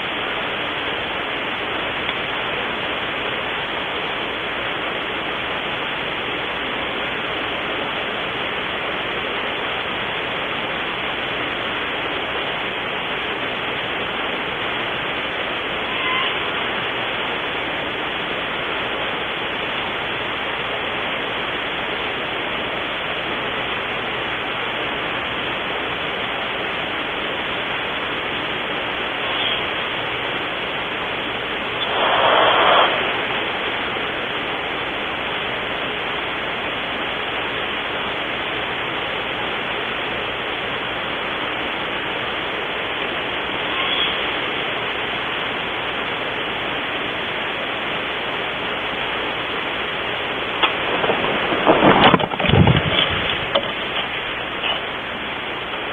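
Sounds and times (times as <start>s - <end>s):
static hiss: 0.0s - 55.9s.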